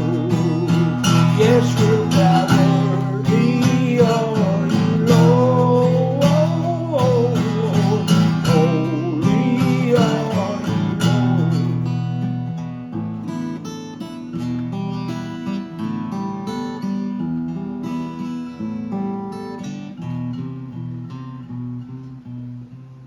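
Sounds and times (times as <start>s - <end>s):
strummed acoustic guitar chords: 0.0s - 23.0s.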